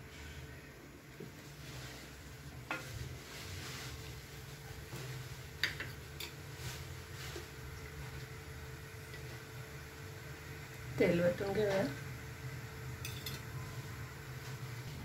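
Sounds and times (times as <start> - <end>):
gas stove burner running: 0.0 - 15.0.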